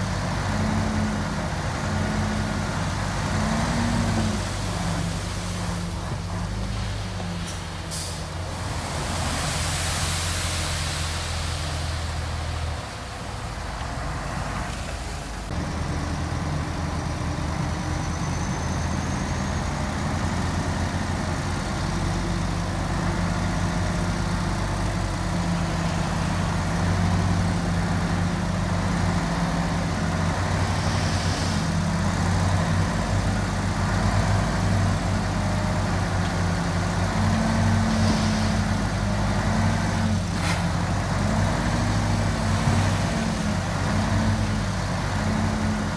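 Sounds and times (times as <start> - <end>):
heavy machinery diesel engines: 0.0 - 45.9.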